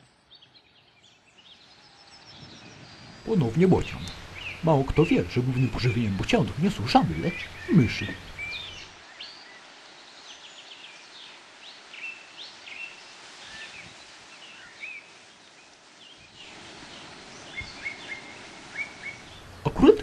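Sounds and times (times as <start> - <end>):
faint outdoor hiss: 0.0 - 20.0
songbirds chirping and singing: 0.1 - 20.0.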